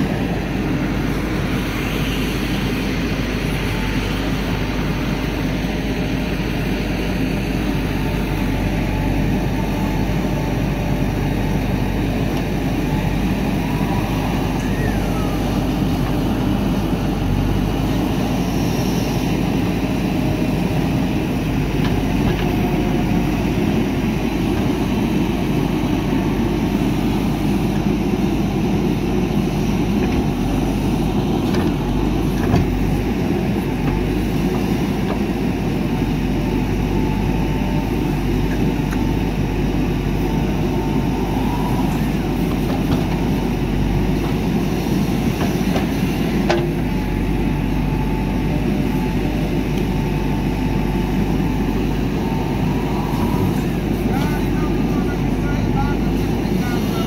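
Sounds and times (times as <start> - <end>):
diesel engine running: 0.0 - 57.0
backhoe digging soil: 7.5 - 28.4, 29.0 - 57.0.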